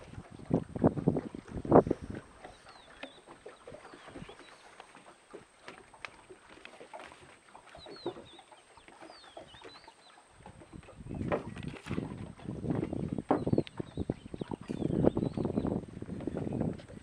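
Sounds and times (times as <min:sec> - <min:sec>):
birds chirping: 0:00.9 - 0:17.0.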